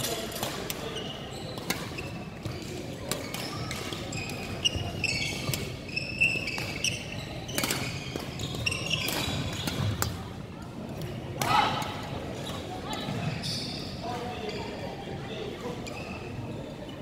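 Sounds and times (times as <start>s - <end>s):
shoes squeaking on court: 0.1s - 10.2s, 12.4s - 17.0s.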